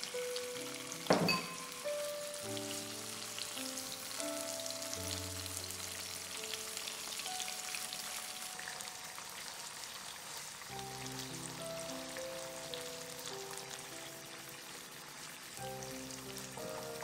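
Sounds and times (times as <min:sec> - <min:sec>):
soft background music: 0:00.0 - 0:17.0
tofu sizzling in hot oil: 0:00.0 - 0:17.0.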